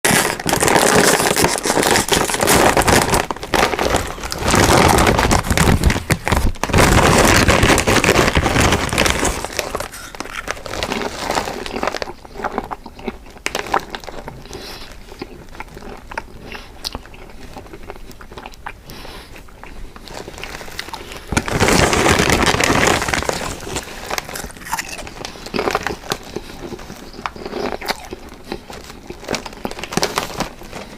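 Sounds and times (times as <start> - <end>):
crunching potato chips: 0.0 - 30.9.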